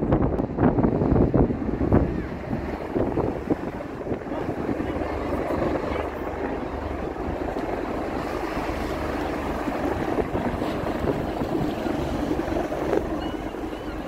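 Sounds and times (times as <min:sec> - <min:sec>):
wind buffeting microphone: 0:00.0 - 0:14.0
helicopter hovering: 0:01.4 - 0:14.0.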